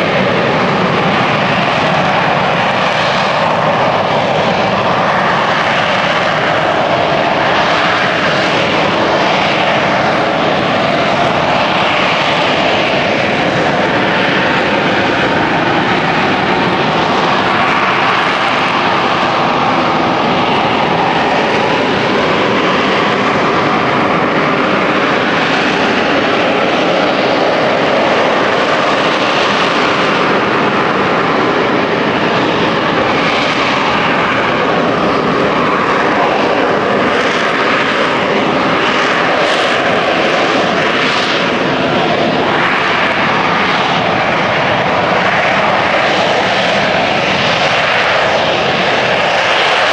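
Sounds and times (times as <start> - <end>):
aircraft engine running: 0.0 - 49.9.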